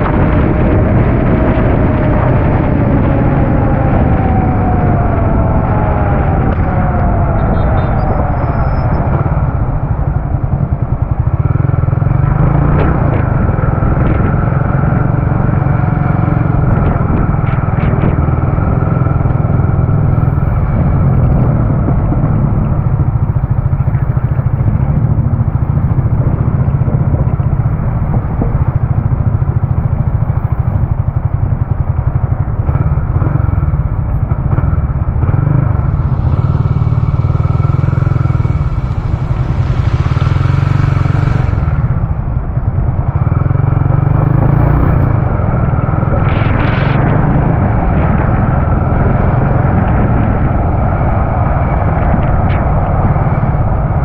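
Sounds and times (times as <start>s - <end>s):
motorcycle running: 0.0s - 54.0s
wind rumble on microphone: 0.0s - 54.0s.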